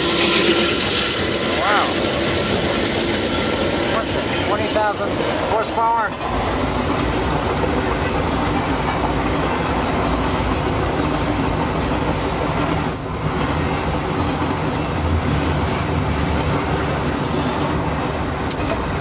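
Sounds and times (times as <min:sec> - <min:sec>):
train wheels rumbling on rails: 0:00.0 - 0:19.0
wheels clicking over rail joints: 0:02.2 - 0:19.0.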